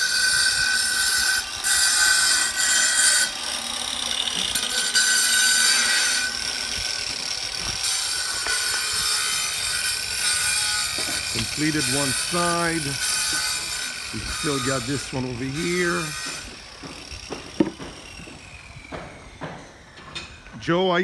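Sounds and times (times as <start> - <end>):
tile saw whining: 0.0 - 21.0.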